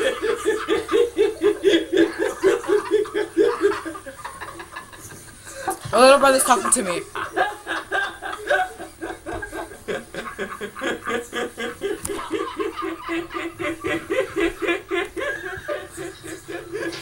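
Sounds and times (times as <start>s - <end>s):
people laughing hard: 0.0s - 17.0s.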